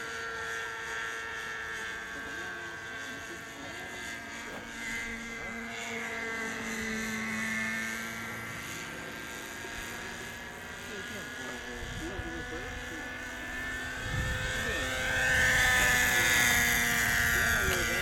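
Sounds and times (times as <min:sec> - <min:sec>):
rc helicopter buzzing: 0:00.0 - 0:18.0.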